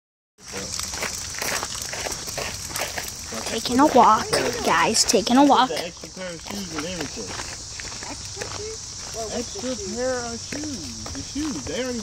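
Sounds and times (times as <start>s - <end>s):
footsteps on gravel: 0.4s - 12.0s
high-pitched hiss: 0.4s - 12.0s.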